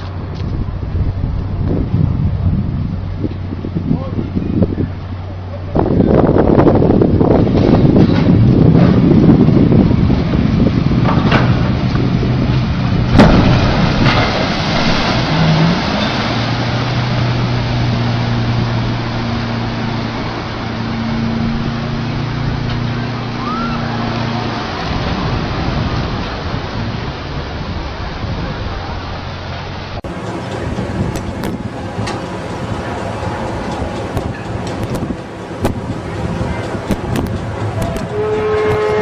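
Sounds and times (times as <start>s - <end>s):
low engine hum: 0.0s - 39.0s
wind buffeting microphone: 0.0s - 39.0s.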